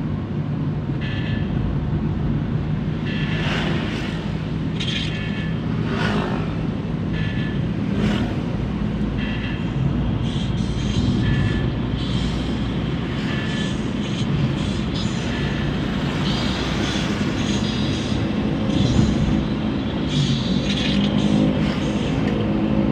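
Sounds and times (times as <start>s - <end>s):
van engine running: 0.0s - 22.9s.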